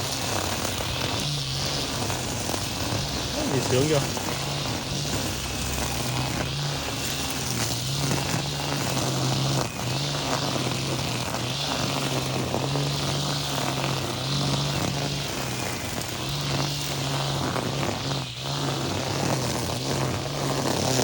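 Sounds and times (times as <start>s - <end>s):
brush cutter motor hum: 0.0s - 21.0s
cutting head hiss: 0.0s - 21.0s.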